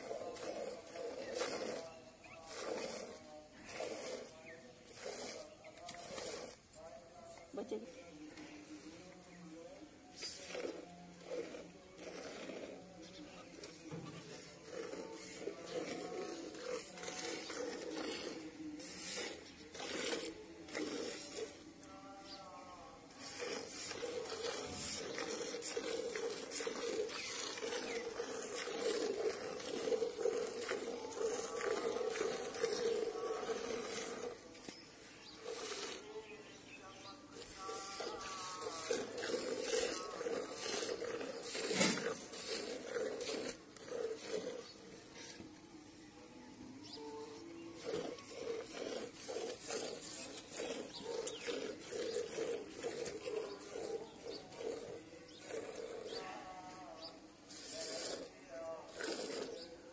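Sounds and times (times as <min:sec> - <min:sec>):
milk squirting into bucket: 0:00.0 - 0:06.7, 0:09.8 - 0:21.9, 0:23.0 - 0:36.1, 0:37.3 - 0:45.6, 0:47.7 - 0:56.5, 0:57.4 - 0:59.9.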